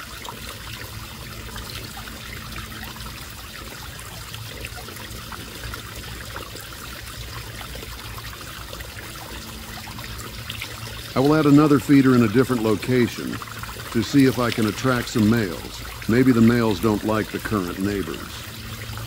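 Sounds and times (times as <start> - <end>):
low steady hum: 0.0 - 19.0
small water splashes: 0.0 - 19.0
water trickling: 0.0 - 19.0.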